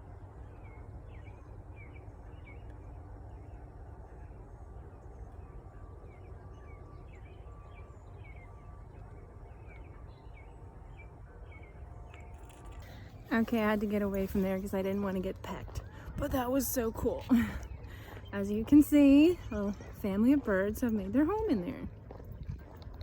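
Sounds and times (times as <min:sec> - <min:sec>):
low wind rumble: 0:00.0 - 0:23.0.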